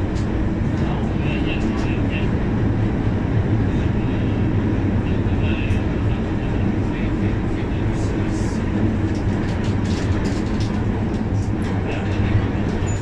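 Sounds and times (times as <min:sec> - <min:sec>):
train car running rumble: 0:00.0 - 0:13.0.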